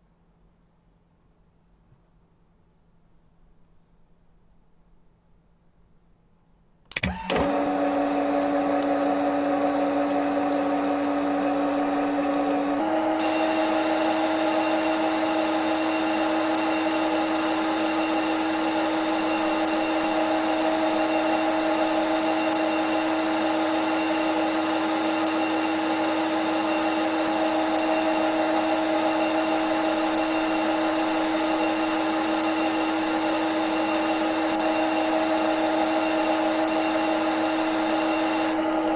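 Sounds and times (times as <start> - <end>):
machine spindle whine and hum: 6.9 - 38.9.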